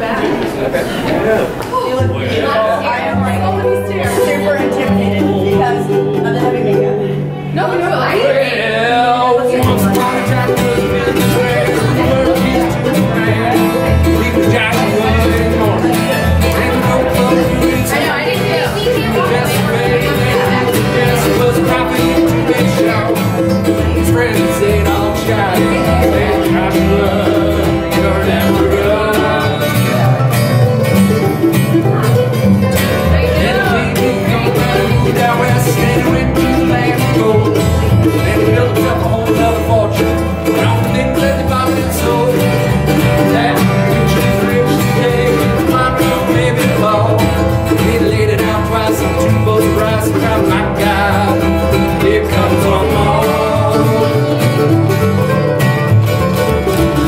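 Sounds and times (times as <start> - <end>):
acoustic guitar picking: 0.0 - 57.0
mandolin picking: 0.0 - 57.0
plucked double bass: 0.0 - 57.0.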